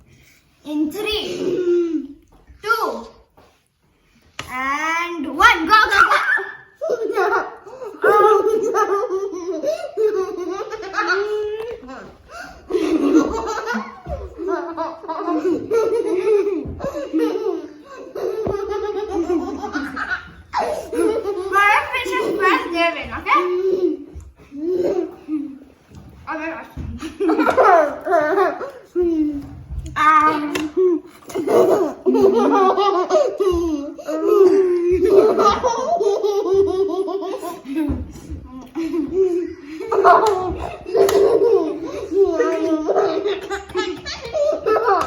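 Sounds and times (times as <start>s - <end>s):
girls laughing and giggling: 5.4s - 45.0s.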